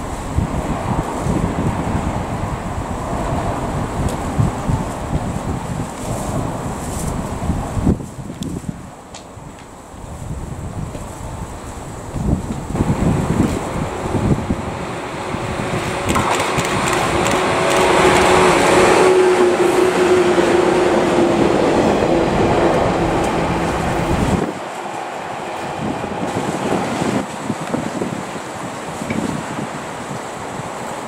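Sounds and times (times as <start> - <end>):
train wheels rumbling on rails: 0.0 - 31.0
wind noise on microphone: 0.0 - 31.0.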